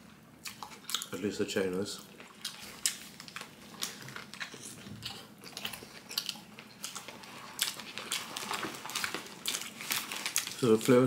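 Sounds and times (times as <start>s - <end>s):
crunchy chewing: 2.0s - 11.0s.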